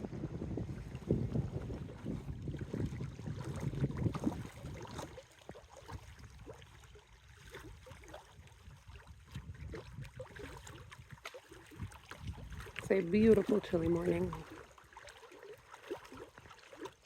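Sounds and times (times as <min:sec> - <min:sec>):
wind rumbling on microphone: 0:00.0 - 0:14.6
water lapping: 0:00.0 - 0:17.0.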